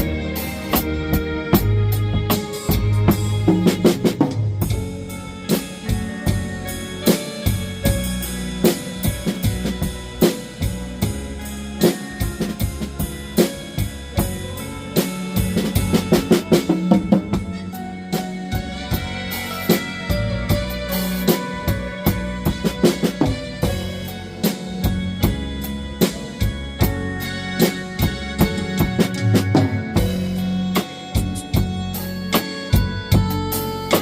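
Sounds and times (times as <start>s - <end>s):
blues backing track: 0.0s - 34.0s
drum kit playing: 0.0s - 34.0s.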